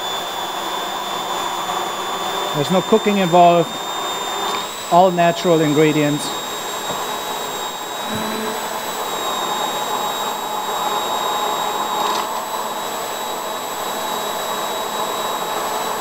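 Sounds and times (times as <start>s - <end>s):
immersion blender whining: 0.0s - 16.0s.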